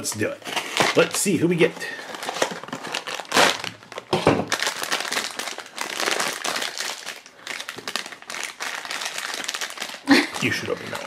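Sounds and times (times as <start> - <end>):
foil bag crinkling: 0.5 - 11.0.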